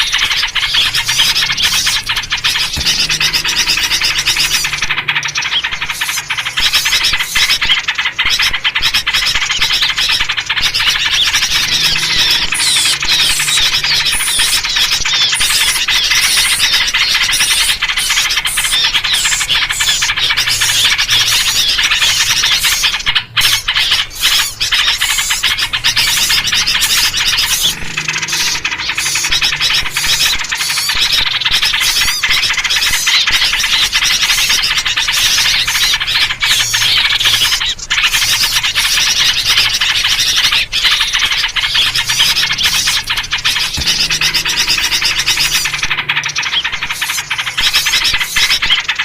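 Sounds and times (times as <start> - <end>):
bulbul calls: 0.0 - 49.0
songbirds chattering: 0.0 - 49.0.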